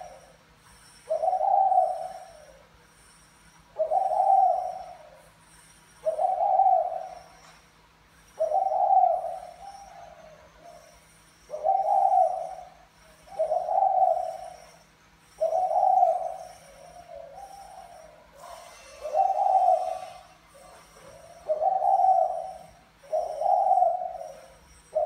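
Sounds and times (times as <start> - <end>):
dove cooing: 0.0 - 0.4, 1.0 - 2.8, 3.7 - 5.4, 6.0 - 7.6, 8.3 - 25.0.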